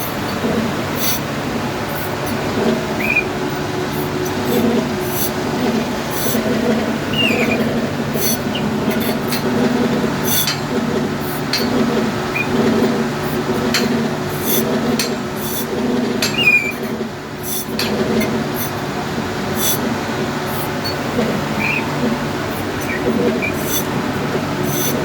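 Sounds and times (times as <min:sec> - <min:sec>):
gearbox humming: 0:00.0 - 0:25.0.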